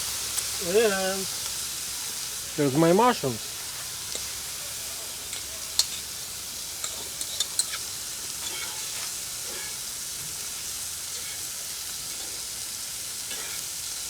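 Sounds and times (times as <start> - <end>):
mushrooms sizzling in a pan: 0.0 - 14.0.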